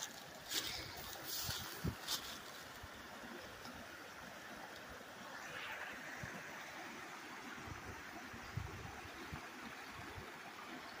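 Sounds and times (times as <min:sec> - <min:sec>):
creek running: 0:00.0 - 0:11.0.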